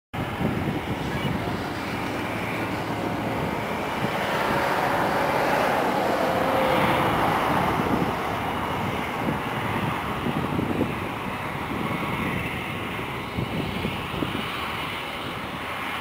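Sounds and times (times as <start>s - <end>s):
jet engines at taxi power: 0.2s - 16.0s.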